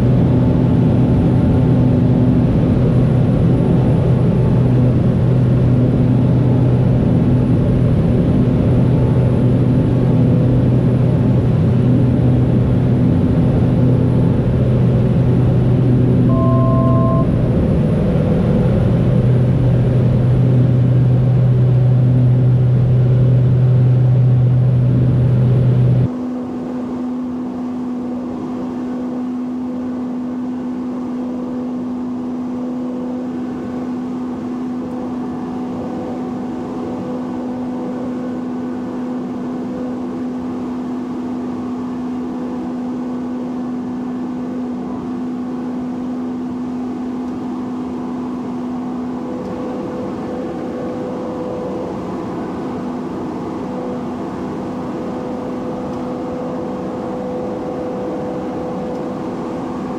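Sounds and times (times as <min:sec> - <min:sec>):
turboprop engine drone: 0:00.0 - 0:59.9.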